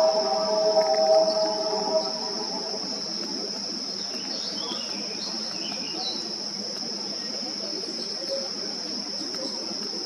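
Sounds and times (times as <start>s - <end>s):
insects trilling drone: 0.0s - 10.0s.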